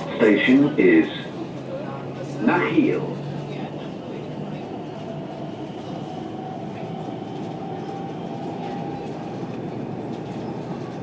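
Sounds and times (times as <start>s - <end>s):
rumble of train wheels on rail: 0.0s - 11.0s.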